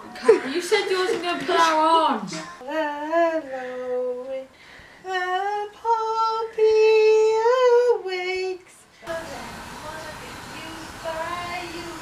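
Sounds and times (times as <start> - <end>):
woman singing long notes: 2.3 - 12.0.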